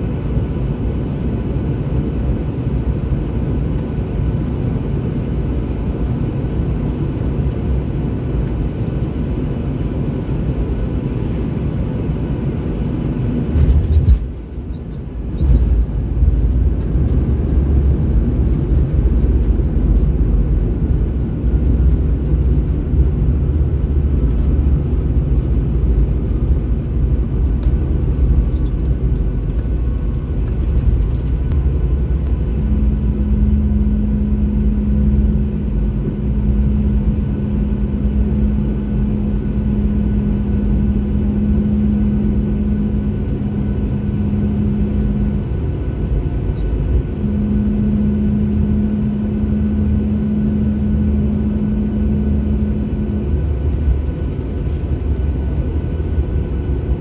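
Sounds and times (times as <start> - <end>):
airliner cabin rumble: 0.0 - 57.0
low hum: 0.0 - 57.0.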